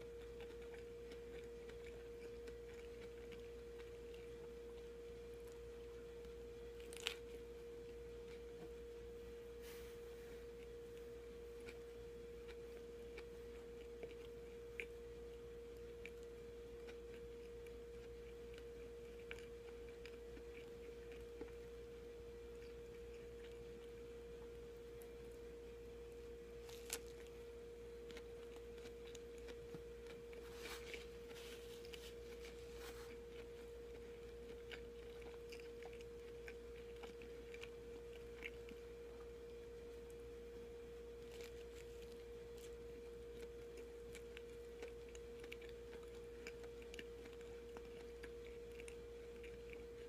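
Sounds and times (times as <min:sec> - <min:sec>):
biting and chewing sandwich: 0:00.0 - 0:09.5, 0:10.4 - 0:50.0
steady hum-like tone: 0:00.0 - 0:50.0.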